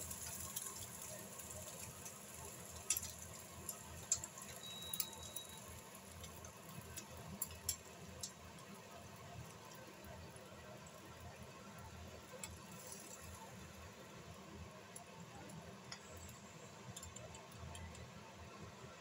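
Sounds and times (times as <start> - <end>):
eggs sizzling in a pan: 0.0 - 18.5.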